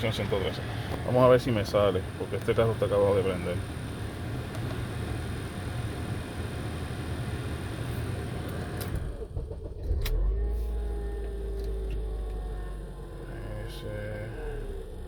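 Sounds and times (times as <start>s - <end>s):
car engine running: 0.0s - 15.0s
deep low rumble with whine: 0.0s - 15.0s.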